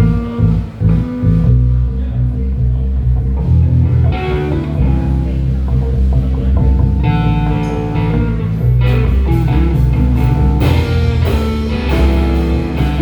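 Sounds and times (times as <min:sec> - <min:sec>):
bass guitar: 0:00.0 - 0:13.0
drums: 0:00.0 - 0:13.0
guitar line: 0:00.0 - 0:13.0.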